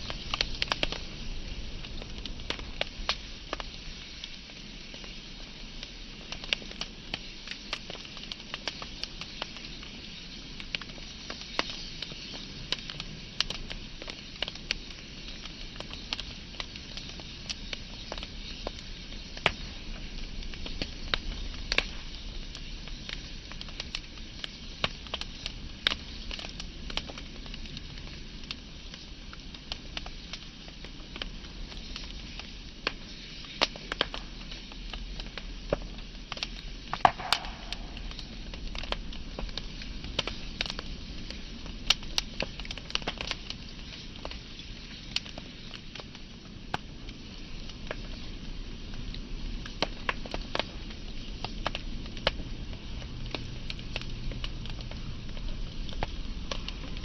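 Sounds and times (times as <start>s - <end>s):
fire hiss: 0.0s - 57.0s
wood fire crackling and popping: 0.0s - 57.0s.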